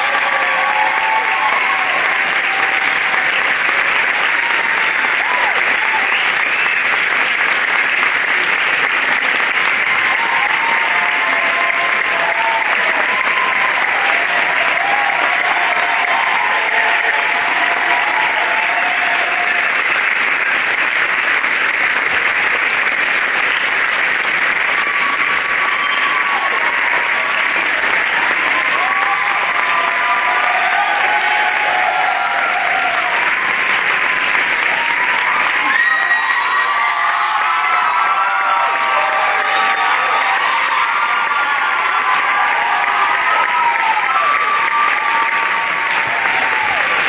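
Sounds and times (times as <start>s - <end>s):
audience applauding: 0.0s - 47.0s.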